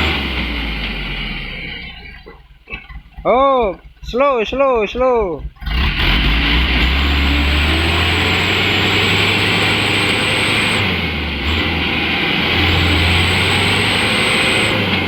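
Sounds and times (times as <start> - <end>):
truck engine straining: 0.0 - 15.0.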